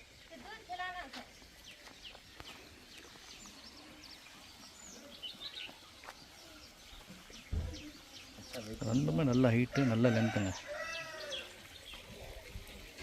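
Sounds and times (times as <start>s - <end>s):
low outdoor background: 0.0s - 13.0s
small birds chirping: 0.0s - 13.0s.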